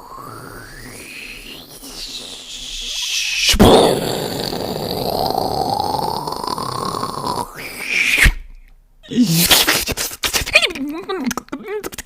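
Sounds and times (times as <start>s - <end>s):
person making breathy vocal effect: 0.0s - 9.9s.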